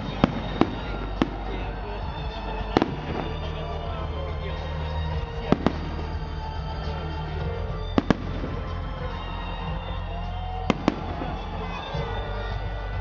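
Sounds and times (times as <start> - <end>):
firework bangs: 0.0 - 13.0
rumble of distant fireworks: 0.0 - 13.0.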